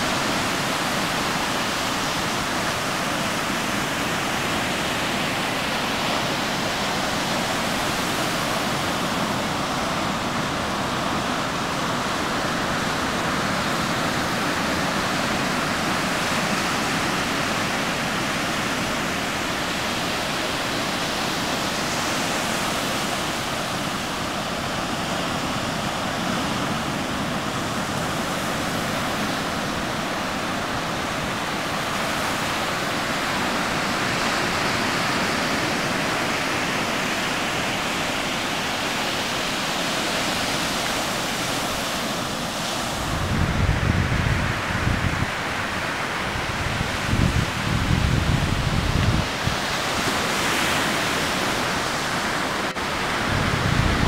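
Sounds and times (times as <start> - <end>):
ocean surf washing up beach: 0.0 - 54.0.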